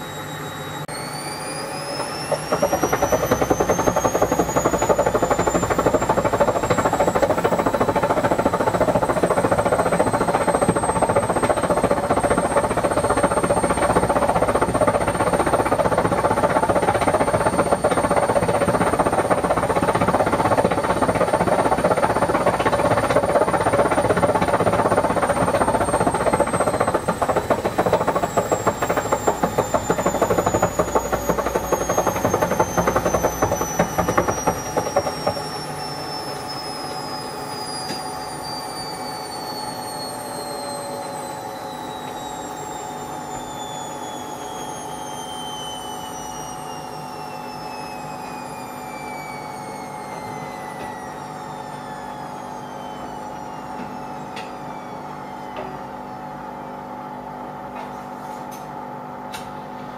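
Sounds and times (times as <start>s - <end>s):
high motor whine: 0.0s - 57.6s.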